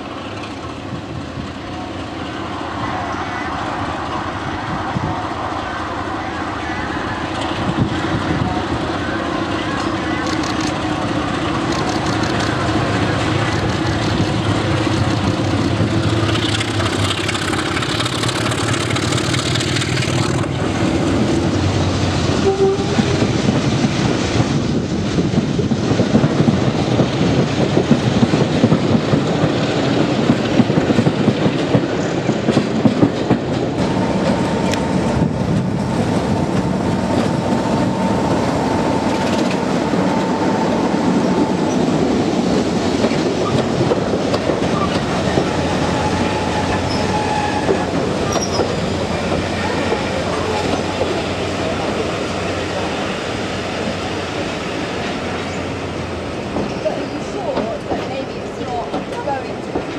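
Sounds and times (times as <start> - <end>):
diesel train engine under load: 0.0 - 59.9.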